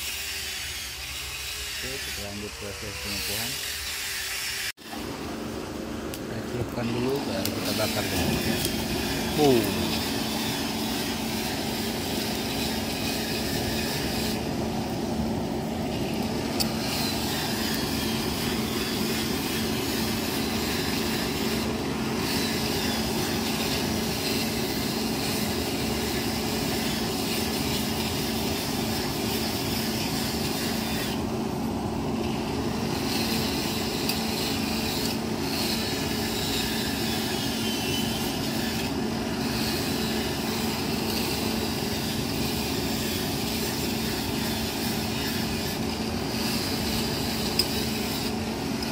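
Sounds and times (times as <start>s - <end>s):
forge blower rushing air: 0.0s - 48.9s.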